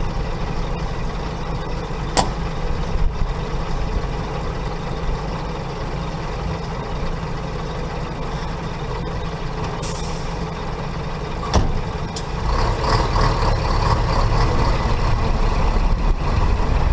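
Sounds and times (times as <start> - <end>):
truck diesel engine idling and revving: 0.0 - 16.9.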